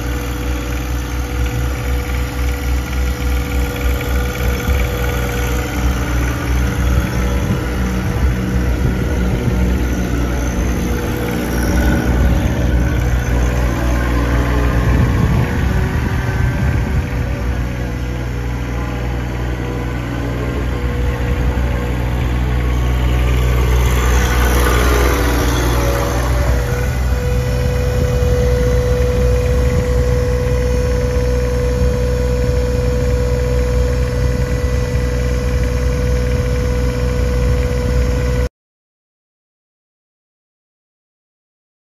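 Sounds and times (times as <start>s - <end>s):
steady whine: 0.0s - 38.5s
tractor diesel engine running: 0.0s - 38.5s
rush of noise: 3.3s - 38.4s.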